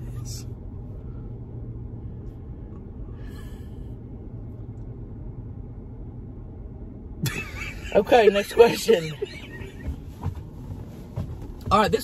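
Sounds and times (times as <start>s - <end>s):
low rumble in car cabin: 0.0s - 12.0s.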